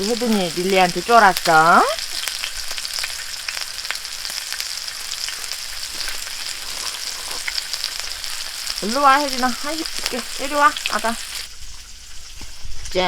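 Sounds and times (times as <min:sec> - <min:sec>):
fat popping and crackling: 0:00.0 - 0:11.5
meat sizzling on a grill: 0:00.0 - 0:13.0.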